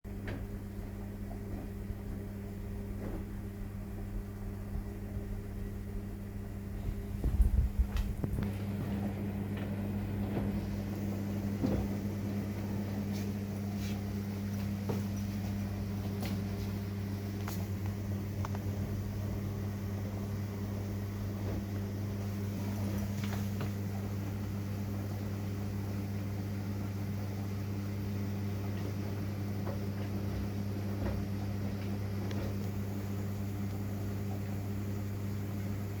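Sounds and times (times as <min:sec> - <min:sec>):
washing machine hum: 0:00.0 - 0:36.0.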